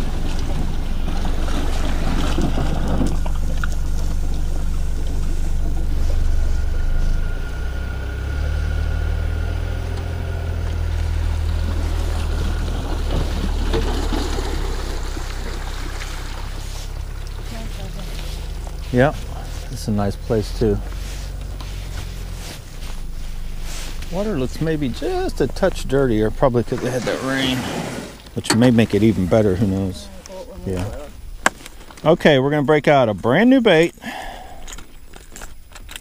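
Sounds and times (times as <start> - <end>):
car engine running at low speed: 0.0 - 35.8.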